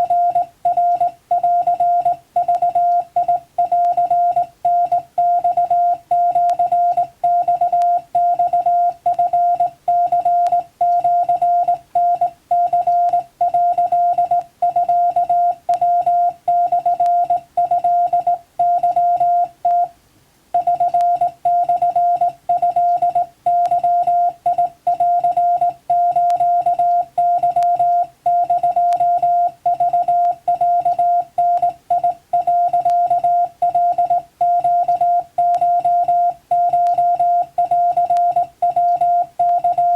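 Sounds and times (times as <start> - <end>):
morse code tone: 0.0 - 19.9, 20.6 - 39.9.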